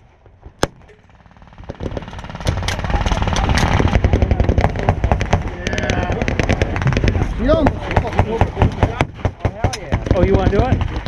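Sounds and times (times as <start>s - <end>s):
low rumble: 0.0s - 9.4s
rapid automatic gunfire: 0.6s - 11.0s.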